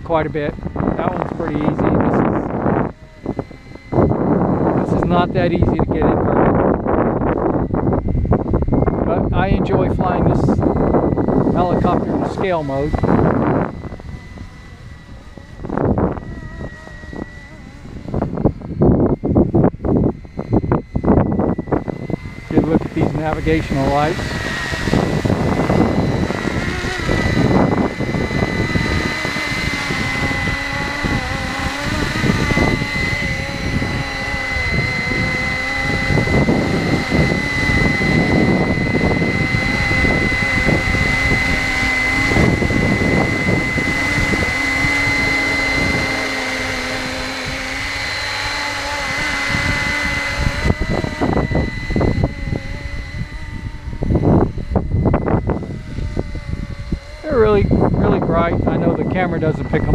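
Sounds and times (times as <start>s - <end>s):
rc helicopter rotor whine: 0.0s - 59.9s
wind buffeting microphone: 0.0s - 59.9s.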